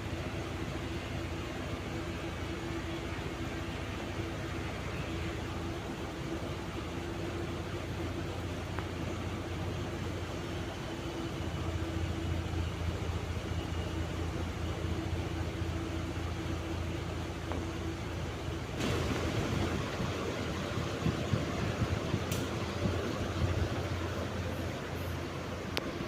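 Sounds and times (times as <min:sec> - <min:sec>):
ceiling fan motor hum: 0:00.0 - 0:26.0.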